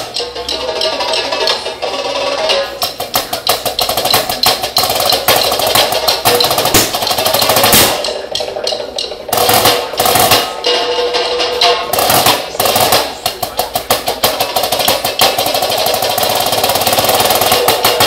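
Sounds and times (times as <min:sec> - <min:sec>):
drumsticks on practice pad: 0:02.5 - 0:18.0.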